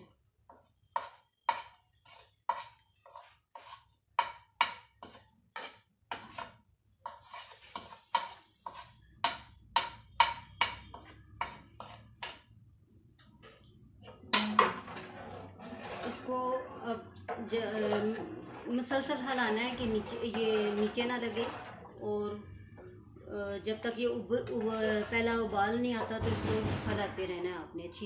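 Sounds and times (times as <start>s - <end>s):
spoon stirring in pot: 0.0s - 12.6s, 13.2s - 26.2s.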